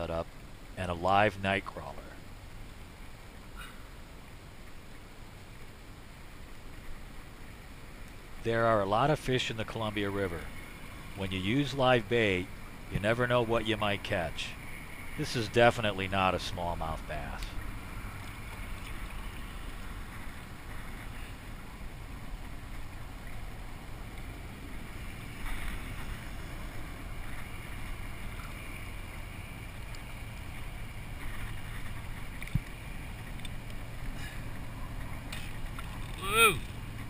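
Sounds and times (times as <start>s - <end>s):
water swishing along kayak hull: 1.7s - 37.0s.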